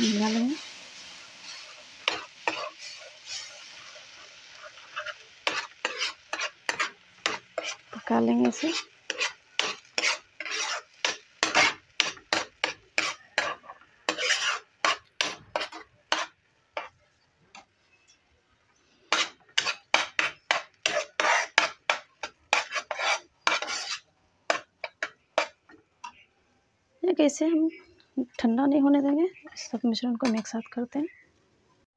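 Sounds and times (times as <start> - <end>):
spoon scraping frying pan: 0.0 - 18.2, 19.0 - 26.2, 29.0 - 31.2.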